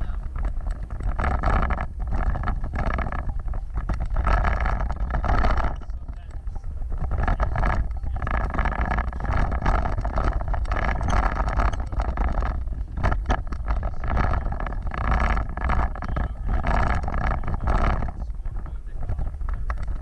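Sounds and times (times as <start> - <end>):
knocks and rattles: 0.0 - 20.0
vehicle rumbling off-road: 0.0 - 20.0.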